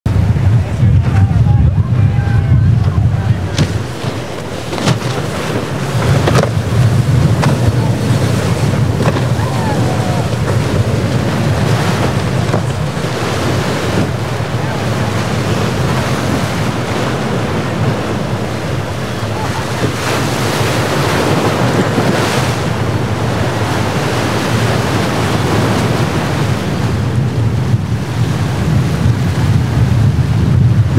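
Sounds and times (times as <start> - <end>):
outboard engine running: 0.0 - 30.9
surf and choppy water: 0.0 - 30.9
wind buffeting microphone: 0.0 - 30.9
hull running through waves: 0.1 - 30.9.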